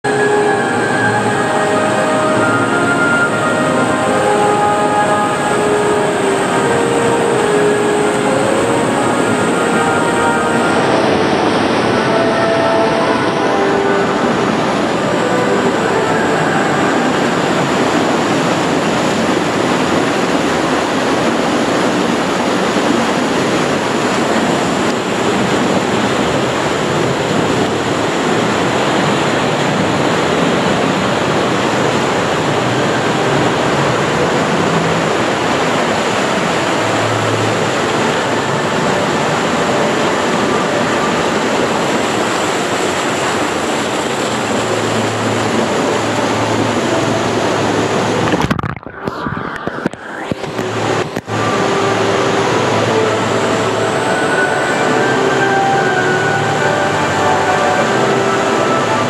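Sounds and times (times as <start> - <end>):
water rushing down channel: 0.0 - 59.0.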